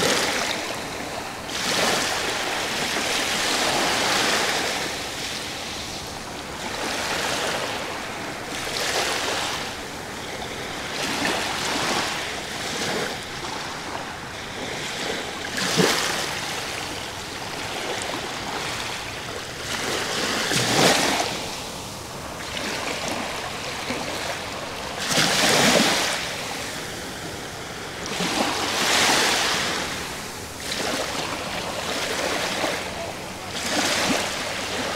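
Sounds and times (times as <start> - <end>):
sea waves washing on beach: 0.0 - 34.9.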